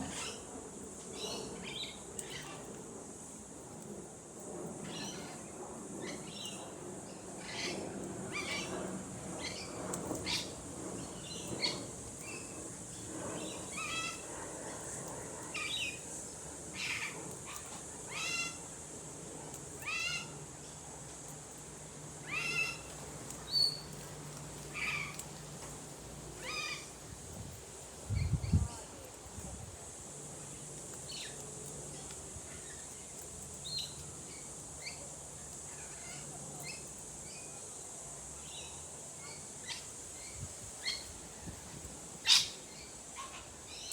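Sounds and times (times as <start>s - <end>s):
high insect drone: 0.0s - 43.9s.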